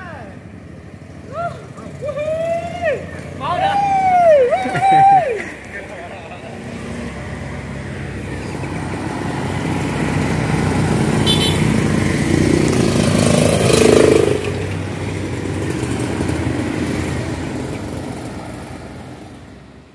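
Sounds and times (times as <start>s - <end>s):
vehicle engine running: 0.4s - 19.9s.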